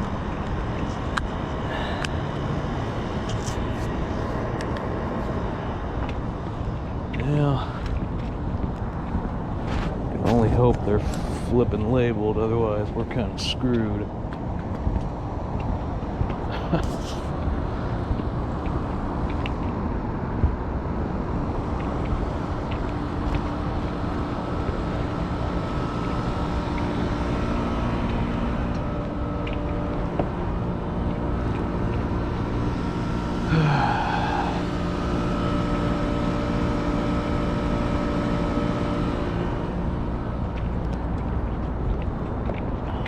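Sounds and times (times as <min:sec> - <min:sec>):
heat pump units humming: 0:00.0 - 0:43.0.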